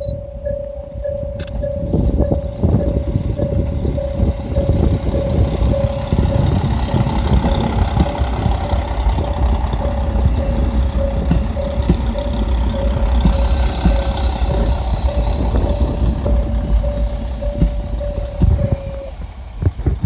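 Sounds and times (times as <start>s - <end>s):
pulsing mid-pitched tone: 0.0s - 19.7s
engine idling: 0.0s - 20.0s.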